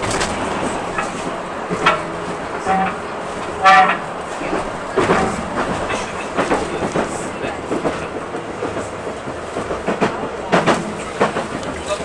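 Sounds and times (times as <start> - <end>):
streetcar rolling rumble: 0.0 - 12.0
wheels clicking over rail joints: 0.0 - 12.0.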